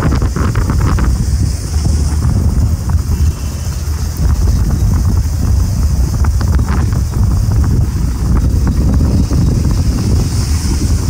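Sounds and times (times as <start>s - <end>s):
motorcycle running: 0.0s - 11.0s
wind buffeting microphone: 0.0s - 11.0s.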